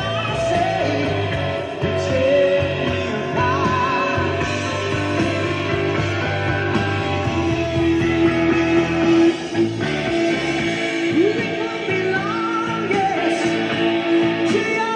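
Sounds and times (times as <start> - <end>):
rock music with singing: 0.0 - 14.9.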